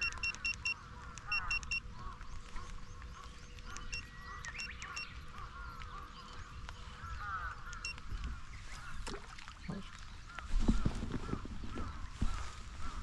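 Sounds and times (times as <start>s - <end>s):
faint animal calls: 0.0s - 13.0s.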